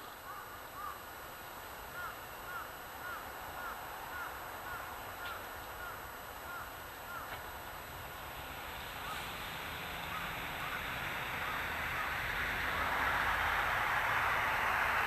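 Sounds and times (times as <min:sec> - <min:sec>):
electric railcar running: 0:00.0 - 0:15.0.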